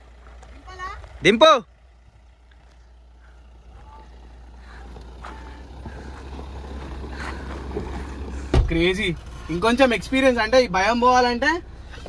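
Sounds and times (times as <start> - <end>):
vehicle engine low hum: 0.0 - 12.0.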